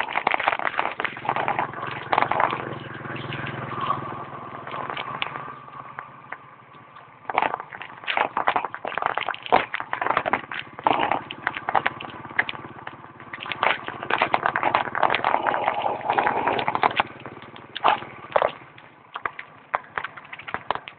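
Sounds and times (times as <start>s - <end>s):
footsteps on dirt path: 0.0s - 20.9s.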